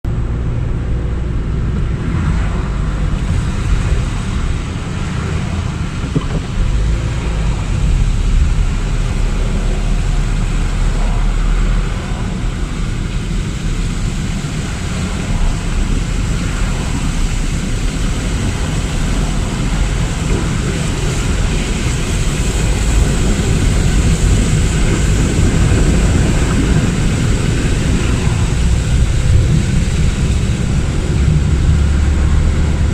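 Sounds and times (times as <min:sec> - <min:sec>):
car road rumble: 0:00.0 - 0:32.9
tyres hissing on water: 0:02.2 - 0:32.9.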